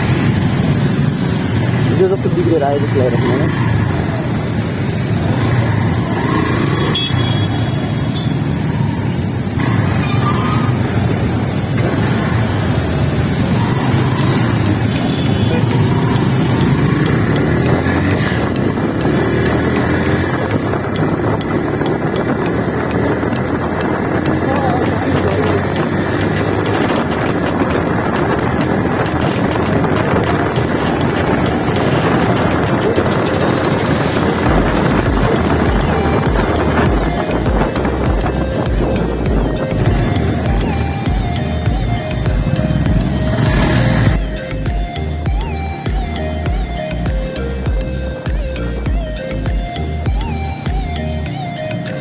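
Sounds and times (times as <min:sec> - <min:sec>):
motorcycle wind and engine rumble: 0:00.0 - 0:52.0
road noise: 0:00.0 - 0:52.0.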